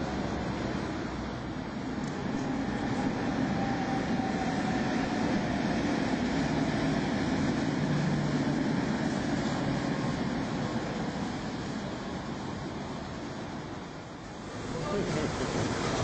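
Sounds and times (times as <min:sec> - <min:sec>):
tram wheels rumbling on rails: 0:00.0 - 0:16.0.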